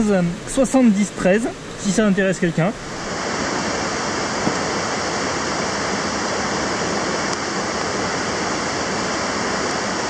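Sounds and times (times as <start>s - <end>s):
mountain stream rushing: 0.0s - 10.0s.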